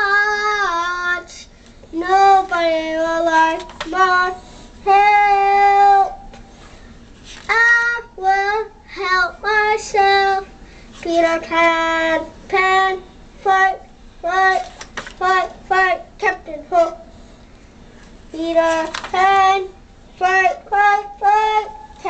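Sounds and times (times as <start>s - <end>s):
boy singing: 0.0s - 6.3s, 7.5s - 17.1s, 18.3s - 22.0s.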